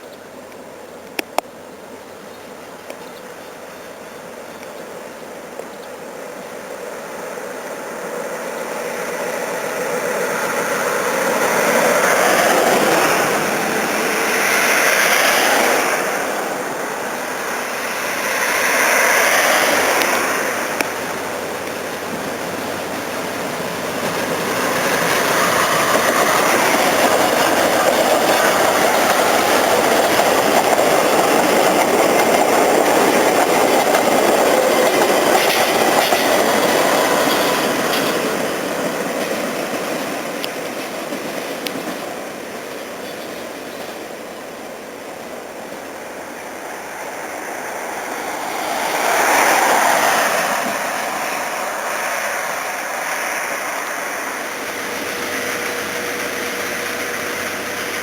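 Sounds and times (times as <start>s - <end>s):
steam train passing: 0.0s - 58.0s.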